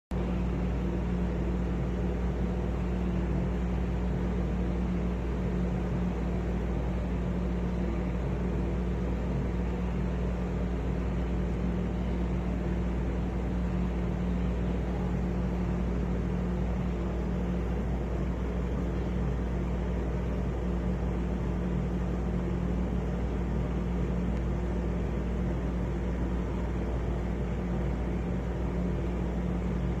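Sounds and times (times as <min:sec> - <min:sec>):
exhaust fan humming: 0:00.1 - 0:30.0.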